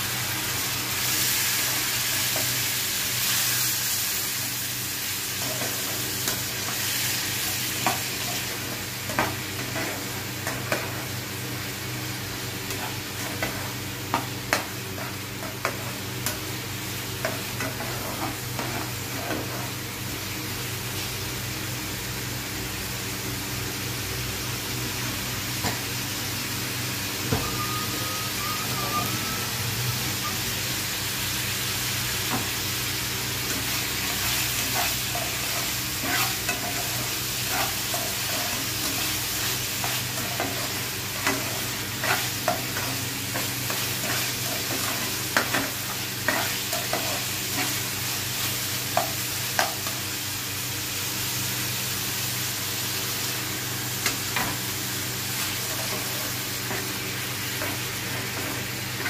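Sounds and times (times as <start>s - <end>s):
onions sizzling in hot oil: 0.0s - 59.0s.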